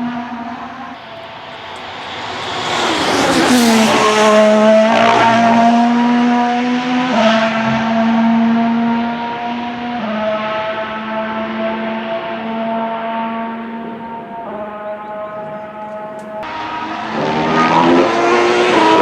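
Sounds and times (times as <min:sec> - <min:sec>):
racing car passing at high revs: 0:00.0 - 0:19.0.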